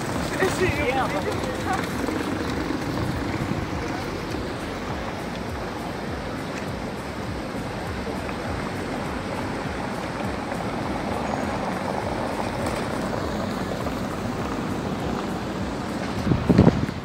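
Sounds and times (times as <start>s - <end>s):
busy city square noise: 0.0s - 17.0s.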